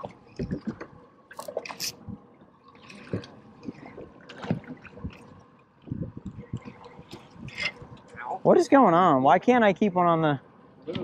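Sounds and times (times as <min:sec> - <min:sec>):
water sloshing around a boat: 0:00.0 - 0:11.0.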